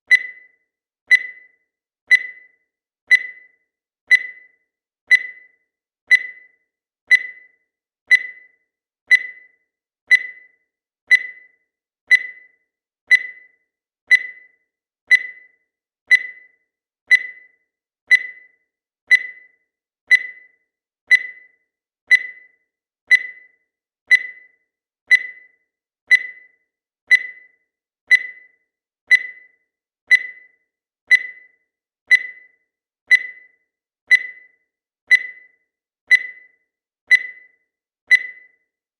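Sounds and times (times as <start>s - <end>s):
digital timer beeping: 0.0s - 38.9s.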